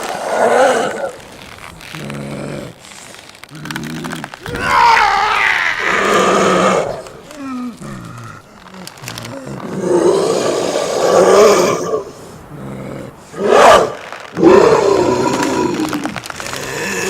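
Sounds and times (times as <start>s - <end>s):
creature roars: 0.0s - 1.2s, 3.5s - 17.0s.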